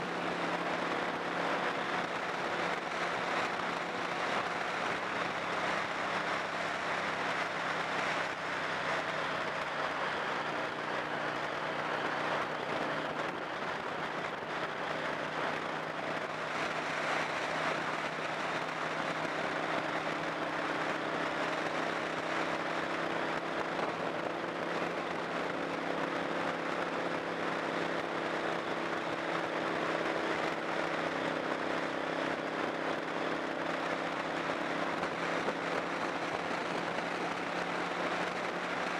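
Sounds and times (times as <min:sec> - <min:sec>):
low engine hum: 0:00.0 - 0:38.9.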